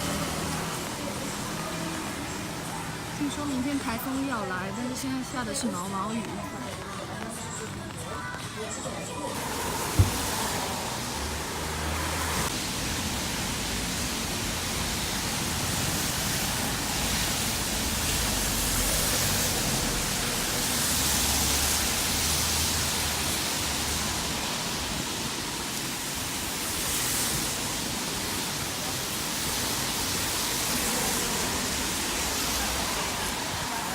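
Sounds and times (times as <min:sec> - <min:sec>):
steady outdoor hiss: 0:00.0 - 0:33.9.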